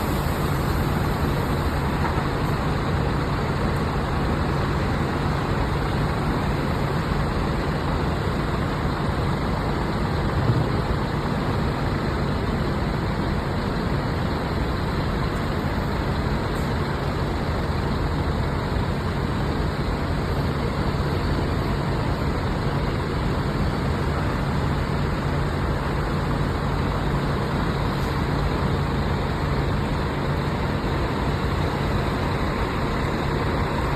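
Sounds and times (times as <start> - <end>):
bus engine hum: 0.0 - 33.9
road rumble: 0.0 - 33.9.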